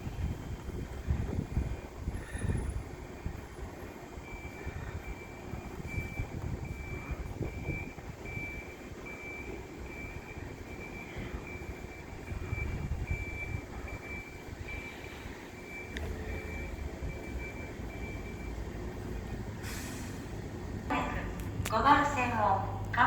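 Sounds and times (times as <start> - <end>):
station platform rumble and hum: 0.0 - 23.0.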